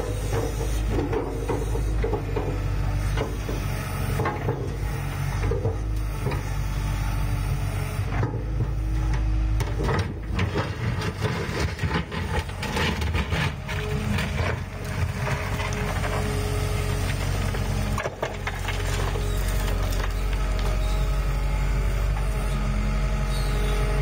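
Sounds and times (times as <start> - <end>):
machine clatter and scraping: 0.0 - 6.5, 8.1 - 21.1
excavator diesel engine running: 0.0 - 24.0.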